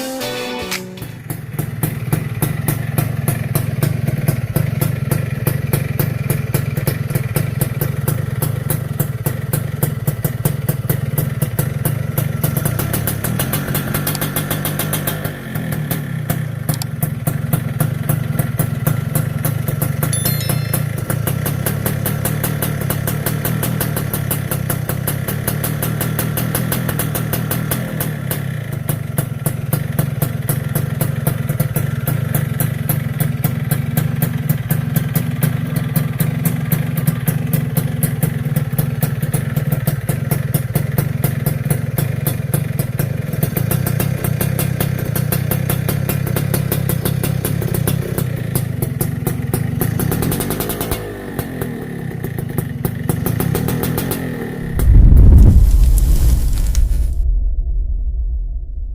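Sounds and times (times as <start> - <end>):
two-stroke engine idling: 1.0 - 20.1, 20.8 - 54.6.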